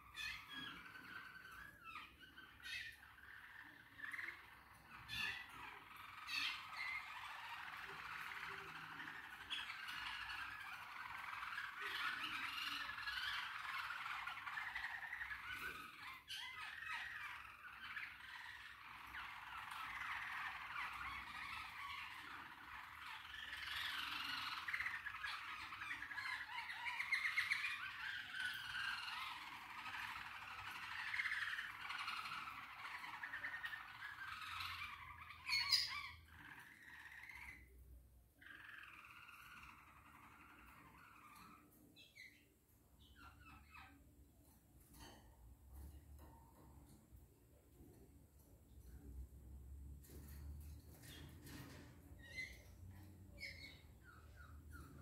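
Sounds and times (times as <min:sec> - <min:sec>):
pet birds chirping and warbling: 0:00.0 - 0:55.0.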